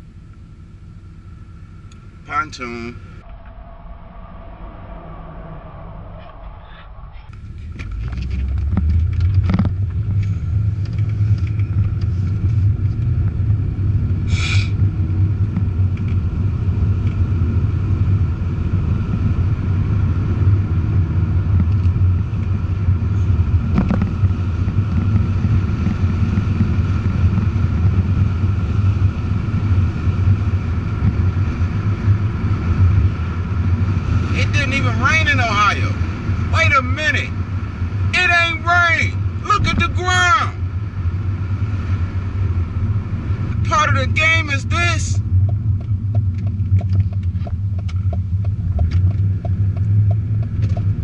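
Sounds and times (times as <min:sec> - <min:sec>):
car engine drone inside cabin: 0:00.0 - 0:51.0.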